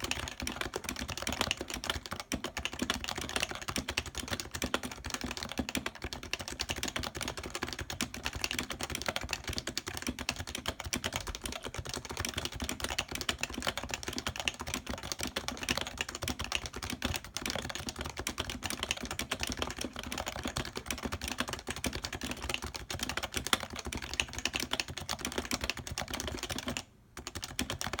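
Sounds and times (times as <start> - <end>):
fast keyboard typing: 0.0 - 28.0.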